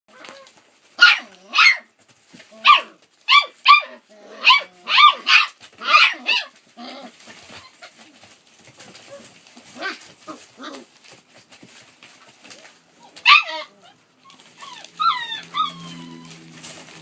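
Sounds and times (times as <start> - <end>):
puppies barking in high yaps: 0.1 - 11.1, 12.9 - 17.0.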